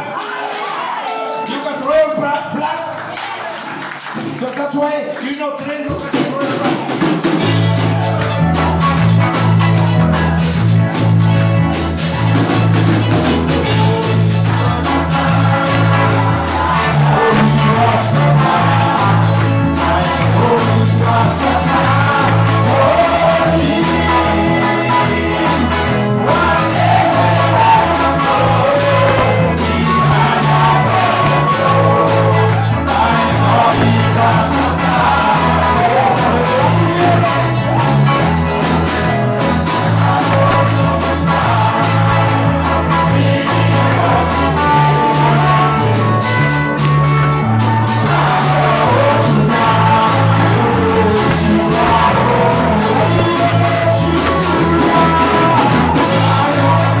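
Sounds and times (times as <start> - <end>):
worship singing with band: 6.0 - 57.0
bass line: 6.1 - 57.0.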